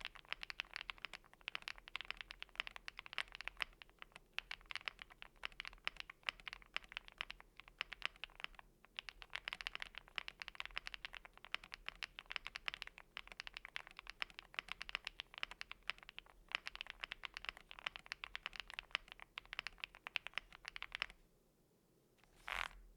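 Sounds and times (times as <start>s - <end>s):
mechanical keyboard typing: 0.0s - 21.1s.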